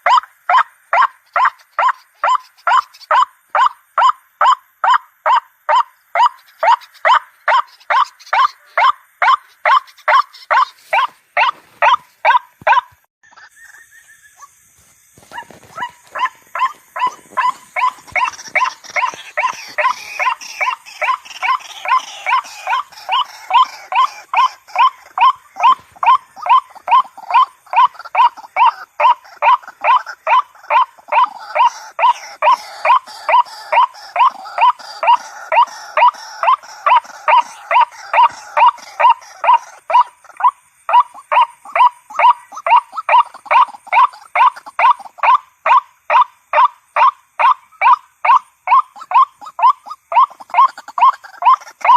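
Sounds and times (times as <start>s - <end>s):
waterhen calling: 0.0s - 14.5s, 15.3s - 51.9s
background noise: 0.0s - 51.9s.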